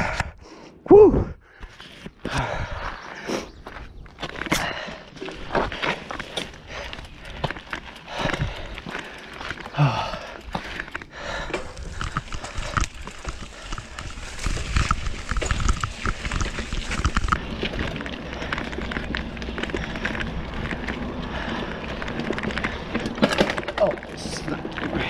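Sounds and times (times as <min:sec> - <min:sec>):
bike tyres rolling over dirt: 0:01.5 - 0:25.0
bike rattling over bumps: 0:01.6 - 0:25.0.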